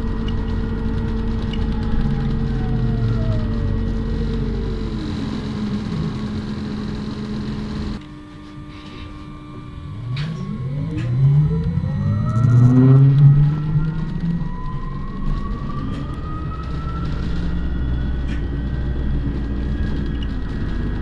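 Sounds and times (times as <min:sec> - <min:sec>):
bus drivetrain whine: 0:00.0 - 0:21.0
bus engine noise: 0:00.0 - 0:21.0.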